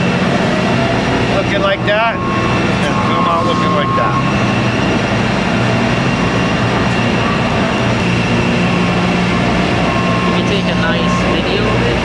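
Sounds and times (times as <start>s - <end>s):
factory machinery drone: 0.0s - 12.0s
thin high tone: 0.7s - 12.0s.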